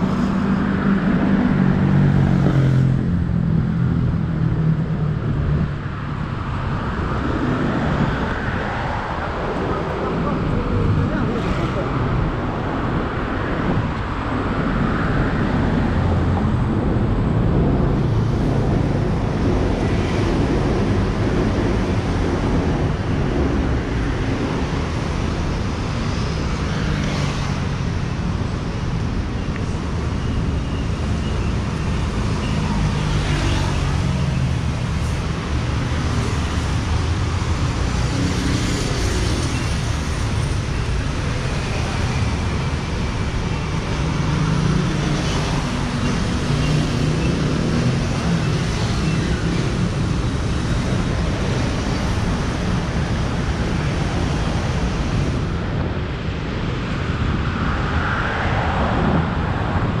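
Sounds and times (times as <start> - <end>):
passing vehicle engines: 0.0 - 60.0.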